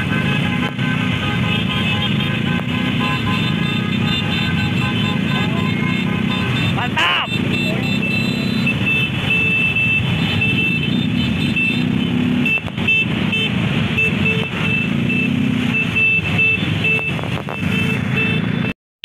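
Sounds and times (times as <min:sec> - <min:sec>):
motorcycle engines rumbling: 0:00.0 - 0:18.7.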